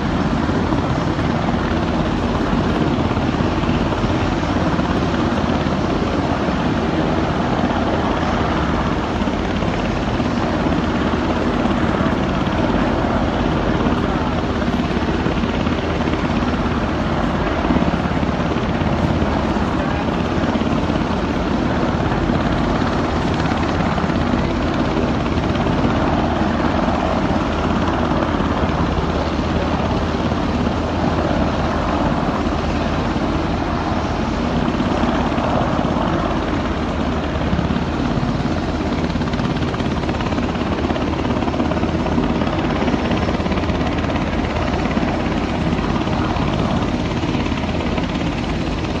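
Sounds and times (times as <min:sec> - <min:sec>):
aircraft drone: 0:00.0 - 0:49.0.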